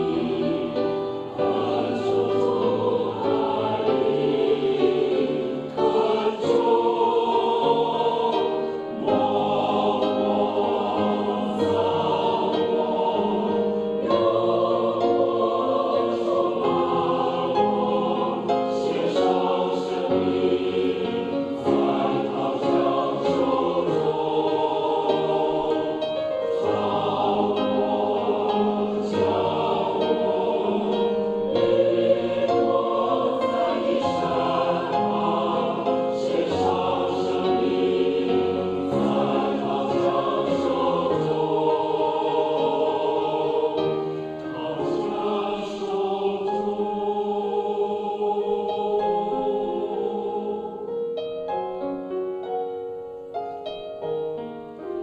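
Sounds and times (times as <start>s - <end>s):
church choir singing a hymn: 0.0s - 55.0s.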